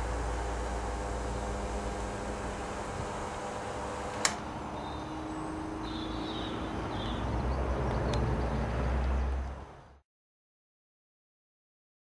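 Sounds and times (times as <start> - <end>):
small petrol engine rumbling: 0.0 - 9.8.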